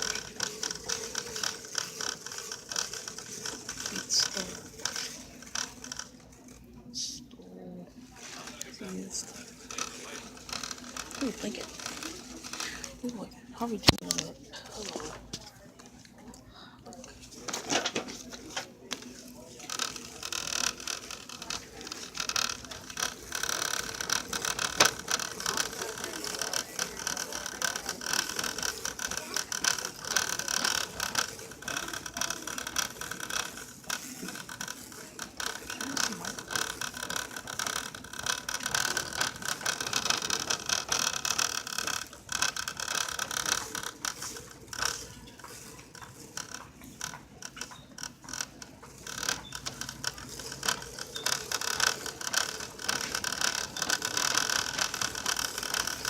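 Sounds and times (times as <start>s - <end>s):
shopping cart rattling: 0.0s - 6.3s, 8.2s - 15.3s, 17.2s - 56.0s.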